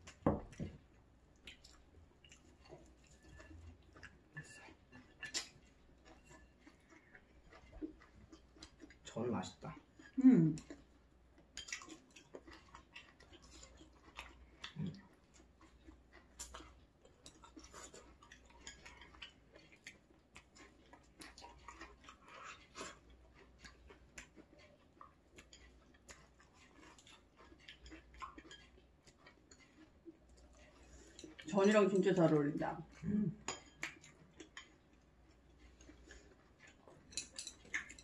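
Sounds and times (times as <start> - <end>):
chewing food: 0.0 - 38.0.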